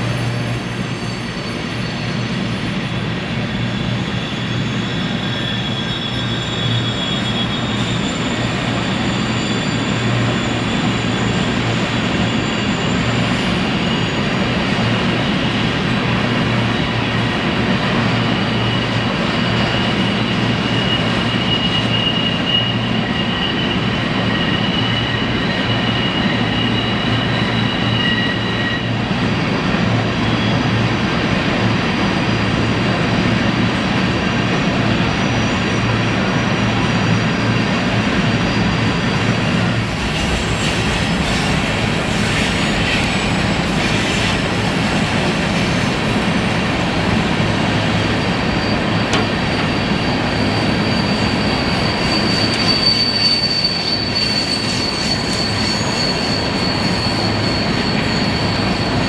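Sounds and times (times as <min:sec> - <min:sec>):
high wheel squeal: 0:00.0 - 0:59.0
train wheels rumbling on rail: 0:00.0 - 0:59.0.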